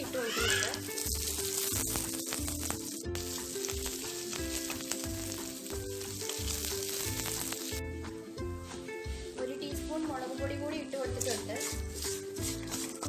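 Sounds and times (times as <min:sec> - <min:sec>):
background music with low beat: 0:00.0 - 0:13.0
chilies sizzling in oil: 0:00.0 - 0:13.0.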